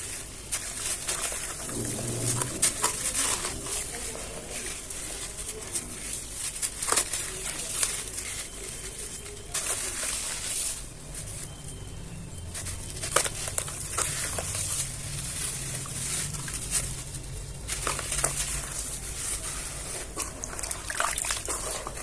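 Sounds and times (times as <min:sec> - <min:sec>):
dry cement crumbling and crunching: 0:00.0 - 0:22.0
grains trickling: 0:00.0 - 0:22.0.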